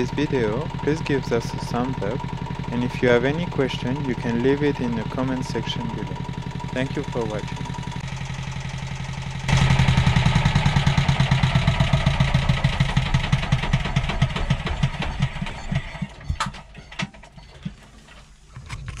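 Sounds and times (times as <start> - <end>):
diesel engine running: 0.0 - 19.0
engine knocks stopping: 0.0 - 19.0.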